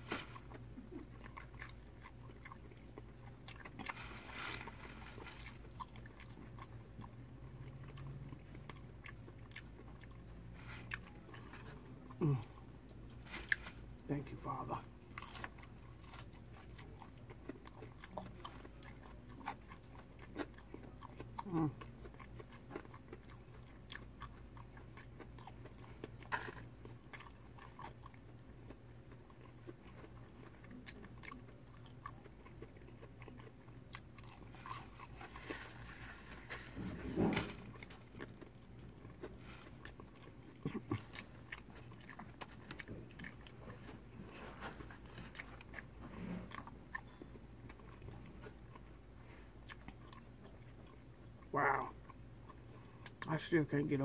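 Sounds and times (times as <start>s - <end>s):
chewing and crunching fried fish: 0.0s - 54.0s
steady low hum: 0.0s - 54.0s.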